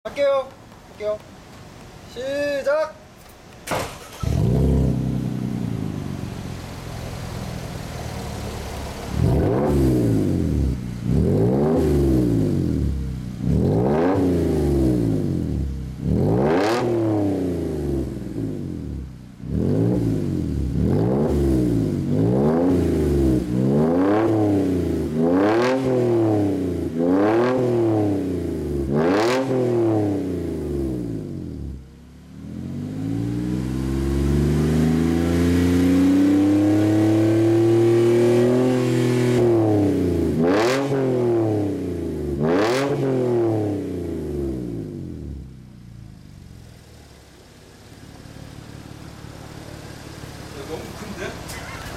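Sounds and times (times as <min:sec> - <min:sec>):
car engine revving: 0:03.6 - 0:51.9.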